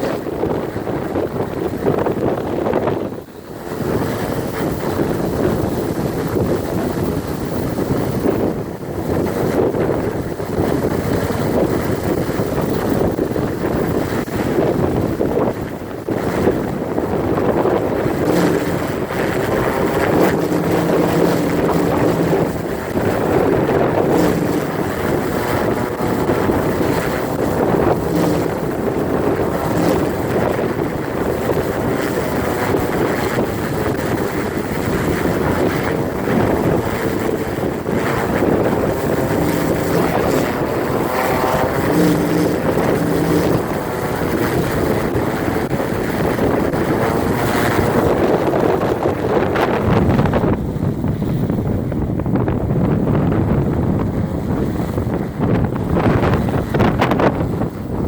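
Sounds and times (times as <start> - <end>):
wind buffeting microphone: 0.0 - 58.0
windmill droning hum: 0.0 - 58.0.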